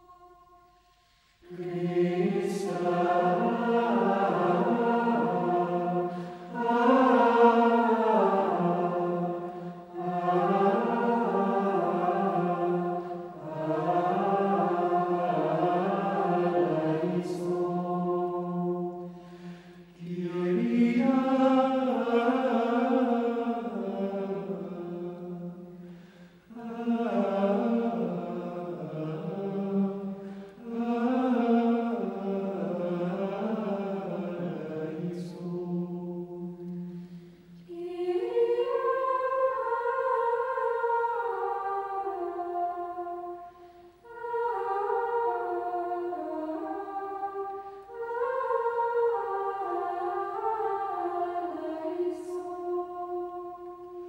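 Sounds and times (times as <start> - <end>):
low voices singing a chant: 1.0 - 54.0.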